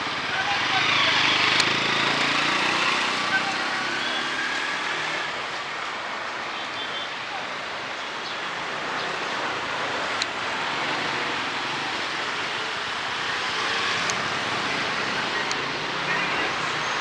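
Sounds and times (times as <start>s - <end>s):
street ambience hiss: 0.0s - 17.0s.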